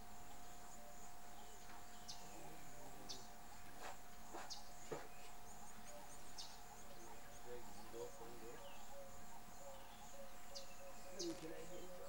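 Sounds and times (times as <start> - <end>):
bird chirps: 0.2 - 12.0.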